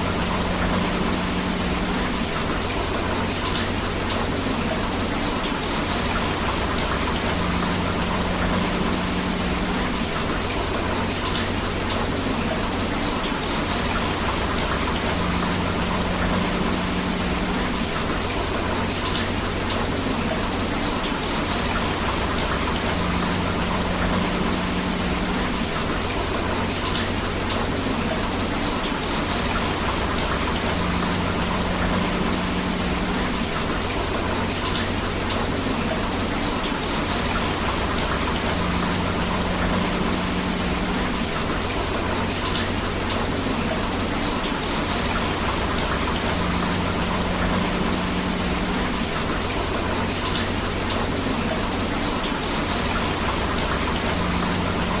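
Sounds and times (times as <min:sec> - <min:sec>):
rushing river water: 0:00.0 - 0:55.0
steady rain: 0:00.0 - 0:55.0.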